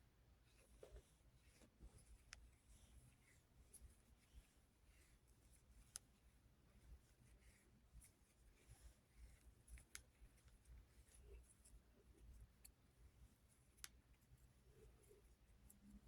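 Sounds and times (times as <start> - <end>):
small clicks and rustles: 0.5 - 16.0.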